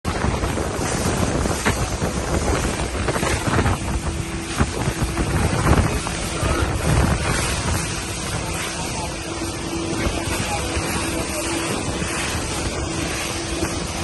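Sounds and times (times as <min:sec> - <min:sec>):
rushing water: 0:00.0 - 0:14.0
speedboat engine running: 0:00.0 - 0:14.0
wind buffeting microphone: 0:00.0 - 0:14.0.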